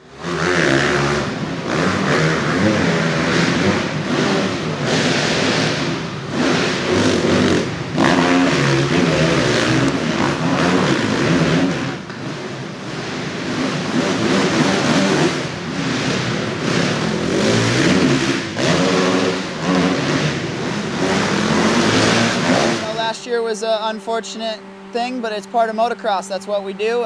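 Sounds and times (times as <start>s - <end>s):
motocross bike engine revving: 0.0s - 27.0s.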